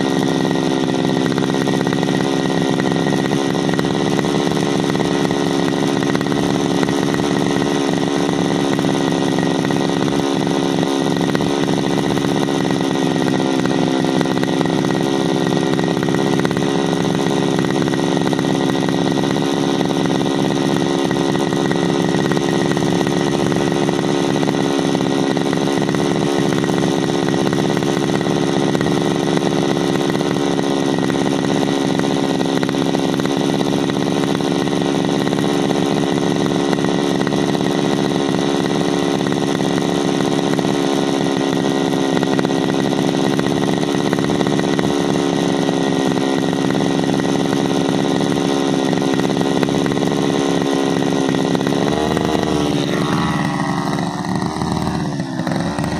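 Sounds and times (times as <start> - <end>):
two-stroke engine idling: 0.0 - 55.9.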